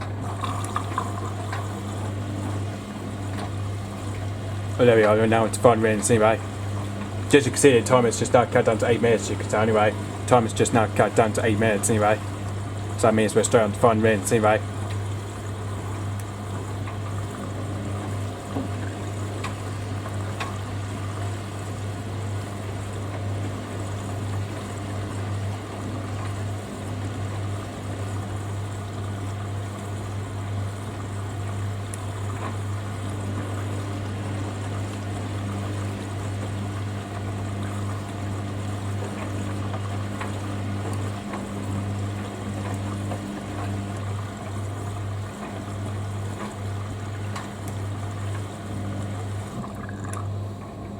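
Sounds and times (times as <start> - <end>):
washing machine hum: 0.0 - 50.9
water pouring and trickling: 0.0 - 50.9.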